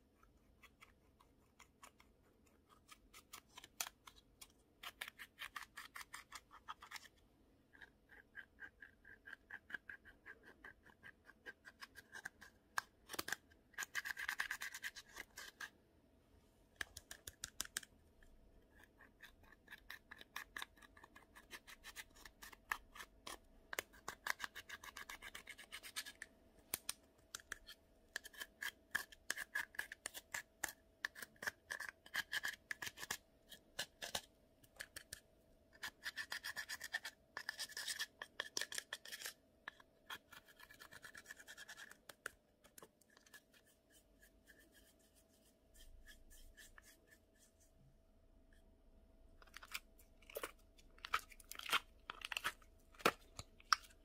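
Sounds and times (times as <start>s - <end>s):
scratchy clicks of scraping powder: 0.2s - 15.8s, 16.8s - 47.8s.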